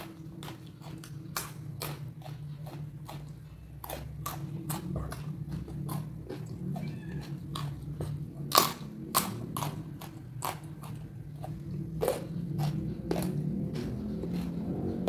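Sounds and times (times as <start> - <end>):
person chewing crunchy food: 0.0 - 15.0
steady low hum: 0.0 - 15.0.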